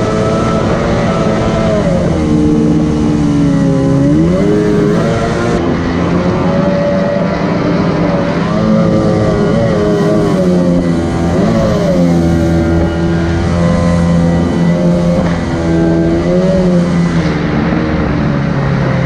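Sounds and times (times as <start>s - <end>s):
outboard motor running at speed: 0.0s - 19.0s.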